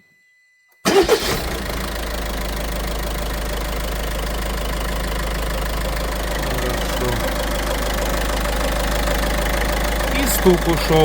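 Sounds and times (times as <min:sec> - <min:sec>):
diesel engine idling: 0:00.9 - 0:11.0.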